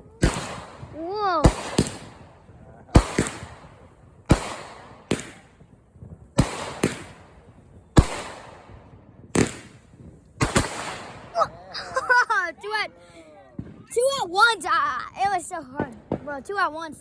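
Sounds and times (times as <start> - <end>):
fireworks bangs: 0.0 - 12.9, 13.5 - 14.6, 15.7 - 16.6.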